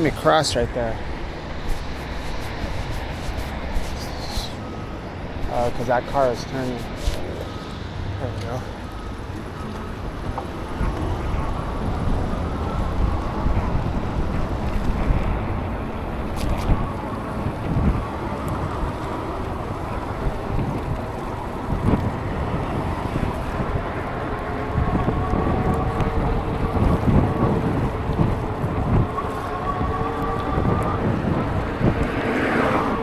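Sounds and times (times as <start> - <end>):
faint steady whine: 0.0 - 33.0
wind buffeting microphone: 0.0 - 33.0.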